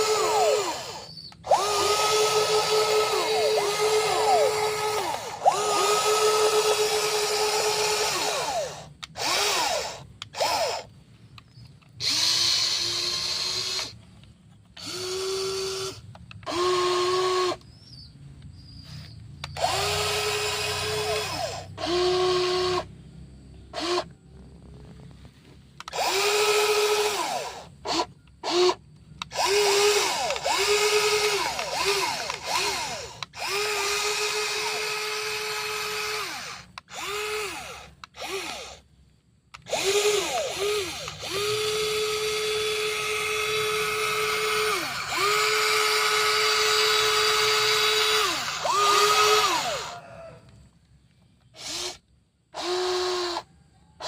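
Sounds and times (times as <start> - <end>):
electric gear motors whining: 0.0 - 54.0.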